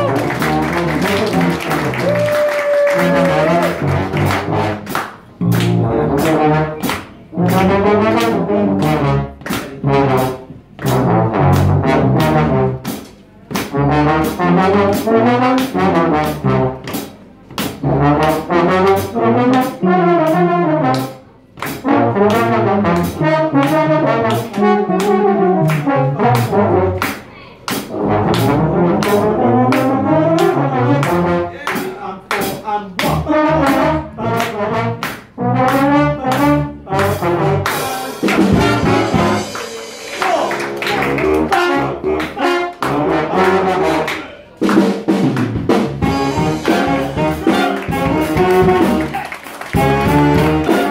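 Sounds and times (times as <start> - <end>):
jazz big band playing: 0.0 - 50.9.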